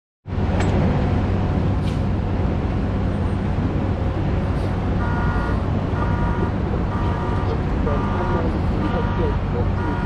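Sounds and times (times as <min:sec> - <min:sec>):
road traffic rumble: 0:00.3 - 0:10.0.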